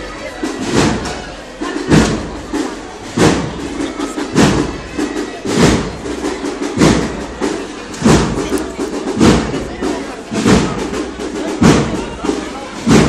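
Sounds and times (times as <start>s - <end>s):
drum struck in slow beat: 1.8s - 13.0s.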